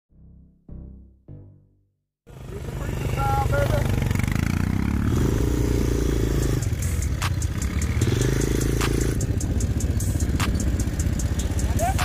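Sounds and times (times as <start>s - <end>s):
atv engine revving: 2.3s - 12.0s.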